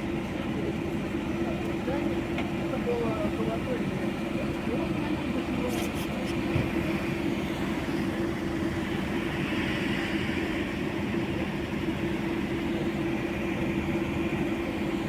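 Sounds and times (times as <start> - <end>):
street traffic hum: 0.0 - 15.0.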